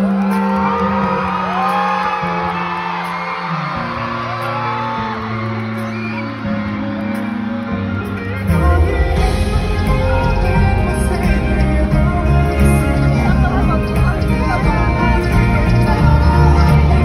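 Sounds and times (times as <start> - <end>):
fans whooping and screaming: 0.0 - 17.0
live band playing pop ballad: 0.0 - 17.0.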